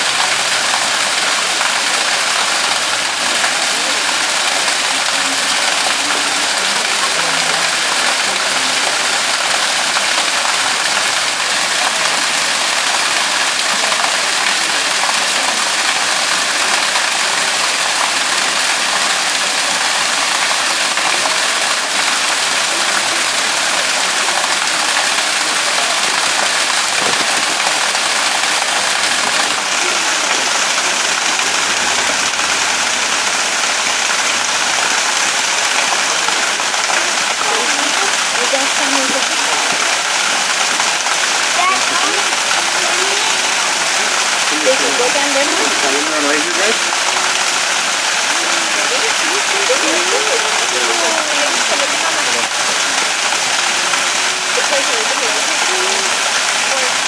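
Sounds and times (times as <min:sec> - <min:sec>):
water falling and splashing: 0:00.0 - 0:57.0.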